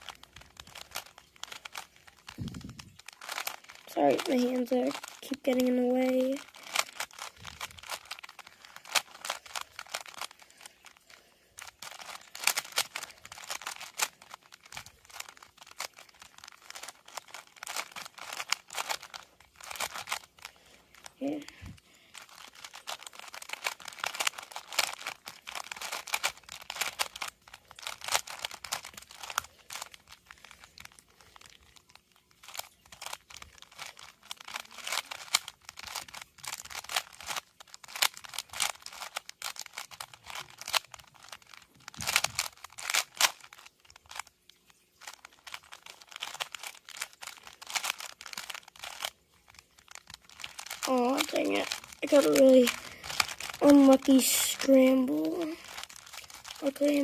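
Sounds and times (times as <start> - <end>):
puzzle cube clicking and rattling: 0.0 - 57.0.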